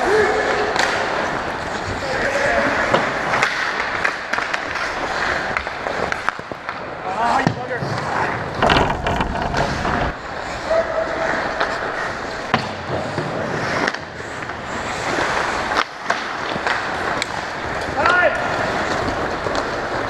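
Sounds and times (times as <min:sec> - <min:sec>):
hockey sticks and puck clacking: 0:00.0 - 0:20.0
skate blades scraping ice: 0:00.0 - 0:20.0.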